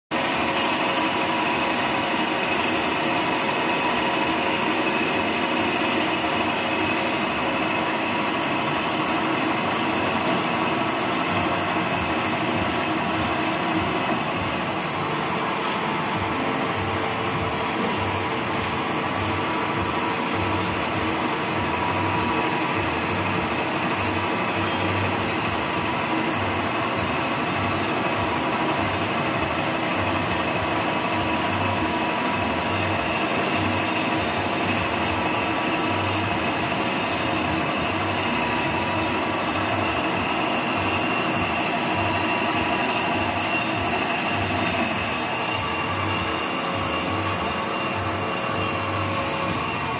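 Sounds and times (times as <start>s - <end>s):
drilling machine boring metal: 0.2s - 49.9s.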